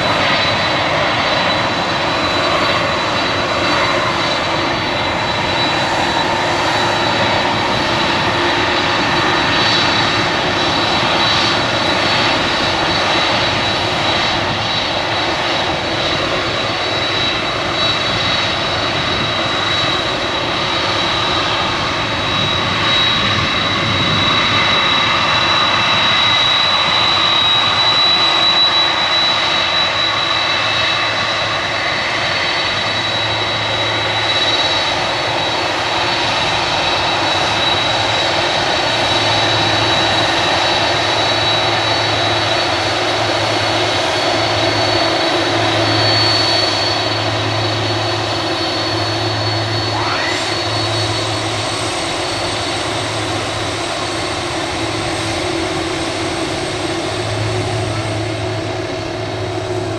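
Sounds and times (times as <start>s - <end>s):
high jet whine: 0.0s - 59.9s
jet engine rumble: 0.0s - 59.9s.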